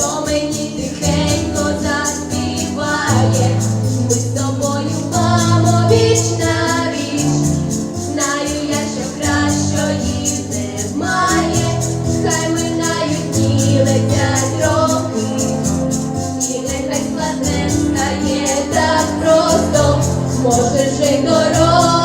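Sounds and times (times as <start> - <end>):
fast pop beat: 0.0 - 22.0
woman singing: 0.0 - 22.0.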